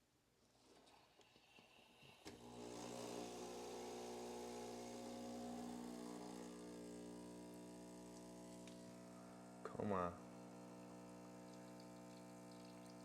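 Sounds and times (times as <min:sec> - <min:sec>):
espresso pump buzzing: 0:02.3 - 0:13.0.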